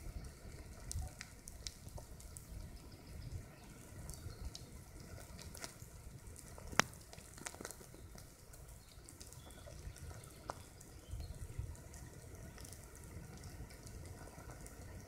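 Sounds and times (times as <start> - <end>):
ants crackling on needles: 0.0 - 15.0.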